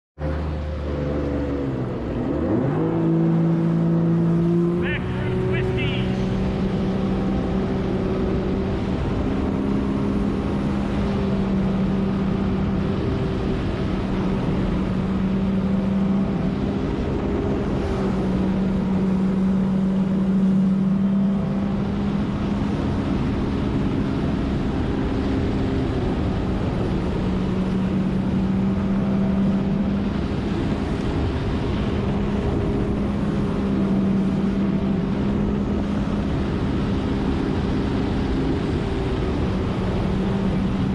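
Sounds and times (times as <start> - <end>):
jet ski engine droning: 0.2 - 40.9
water rushing along hull: 0.2 - 40.9.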